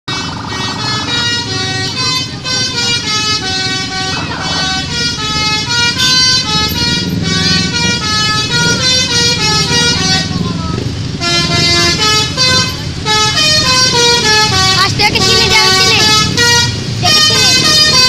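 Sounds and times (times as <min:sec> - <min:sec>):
bus engines rumbling: 0:00.1 - 0:18.0
bus horns playing a tune: 0:00.1 - 0:18.0.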